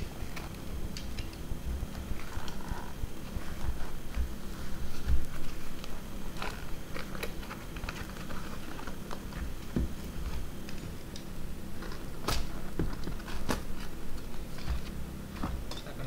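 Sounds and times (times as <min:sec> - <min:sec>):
paper packaging crinkling: 0:00.0 - 0:15.0
low steady hum: 0:00.0 - 0:16.0.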